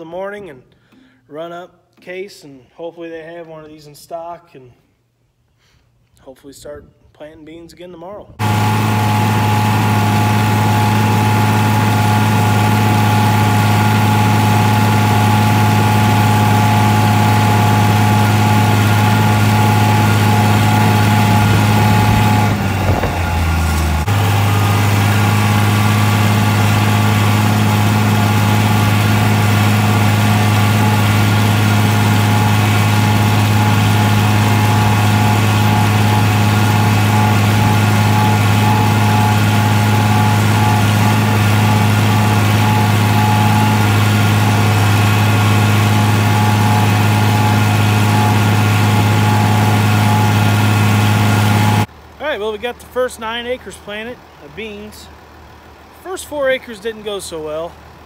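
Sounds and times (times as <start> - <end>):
tractor engine running: 8.4 - 58.0.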